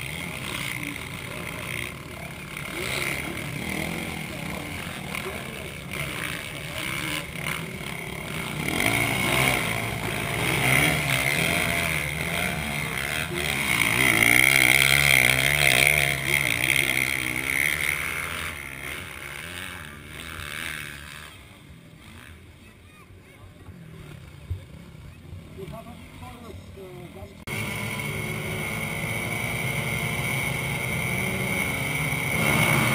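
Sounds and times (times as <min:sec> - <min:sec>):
motocross bikes revving: 0:00.0 - 0:32.9.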